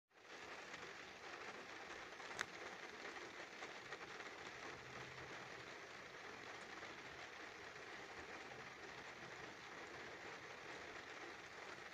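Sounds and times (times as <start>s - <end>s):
rain on car windshield: 0.1s - 11.9s.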